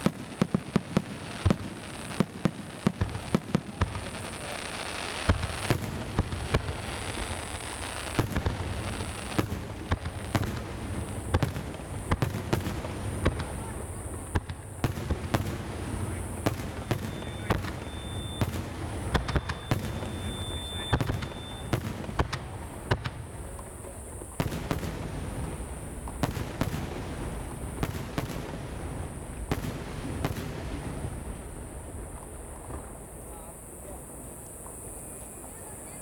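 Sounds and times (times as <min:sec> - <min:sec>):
firework bangs: 0:00.0 - 0:35.6.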